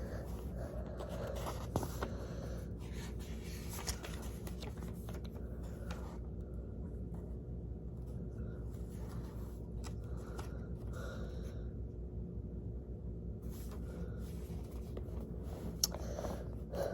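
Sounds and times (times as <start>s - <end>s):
low electrical hum: 0.0s - 16.9s.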